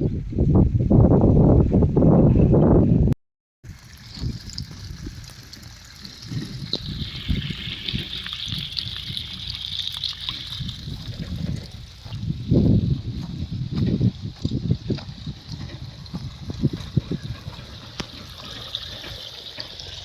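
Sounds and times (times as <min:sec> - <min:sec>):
water trickling: 0:03.6 - 0:20.0.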